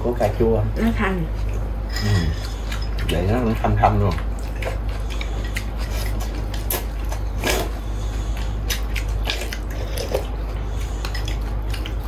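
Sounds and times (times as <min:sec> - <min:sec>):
chewing: 0:01.3 - 0:12.0.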